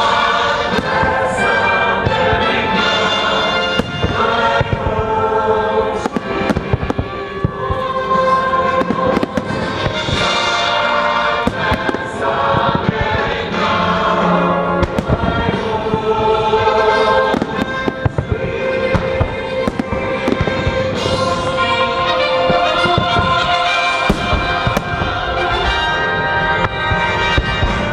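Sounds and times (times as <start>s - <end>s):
fireworks bangs and crackles: 0.0s - 27.9s
orchestral and choral music: 0.0s - 27.9s.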